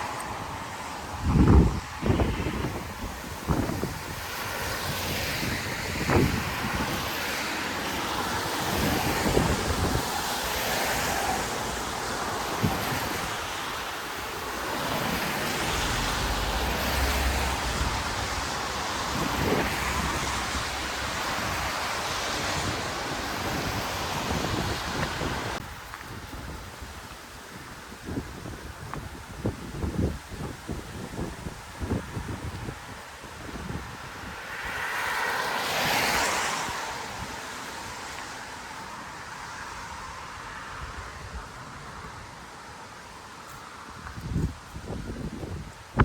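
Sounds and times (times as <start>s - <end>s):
wind on microphone: 0.0s - 38.2s, 44.0s - 46.0s
traffic hissing on wet pavement: 0.0s - 46.0s.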